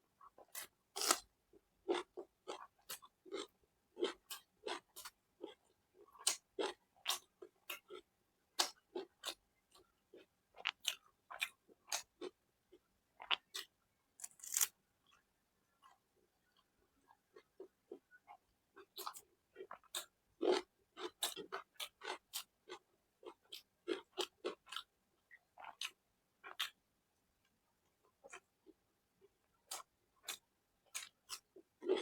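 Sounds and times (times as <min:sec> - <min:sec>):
person chewing with wet smacks: 0:01.8 - 0:13.7, 0:15.8 - 0:26.8, 0:28.2 - 0:32.0.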